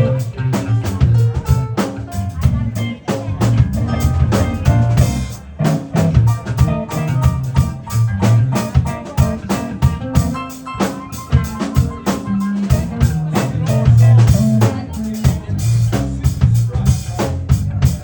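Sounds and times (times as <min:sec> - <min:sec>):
keyboard music: 0:00.0 - 0:15.5
moving bass line: 0:00.0 - 0:18.0
steady drum beat: 0:00.0 - 0:18.0.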